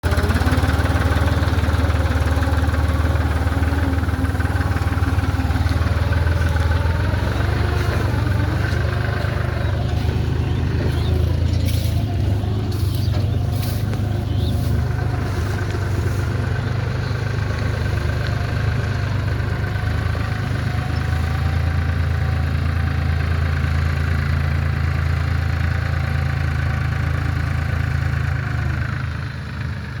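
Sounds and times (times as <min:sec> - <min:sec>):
tractor engine under load: 0:00.0 - 0:30.0.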